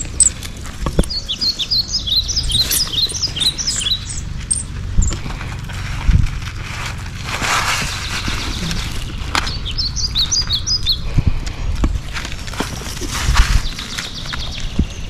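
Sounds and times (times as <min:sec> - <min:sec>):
birds chirping: 0:00.0 - 0:15.0
low rumbling background: 0:00.0 - 0:15.0.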